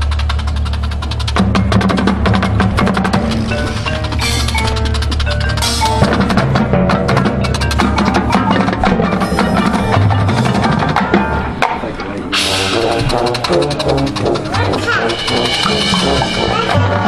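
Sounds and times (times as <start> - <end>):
drumline and mallet percussion: 0.0 - 17.0
marching band playing: 0.0 - 17.0.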